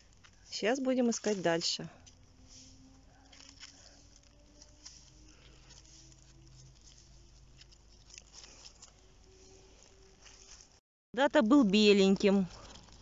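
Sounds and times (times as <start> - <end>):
dry leaves rustling and crackling: 0.0 - 10.8, 11.4 - 13.0.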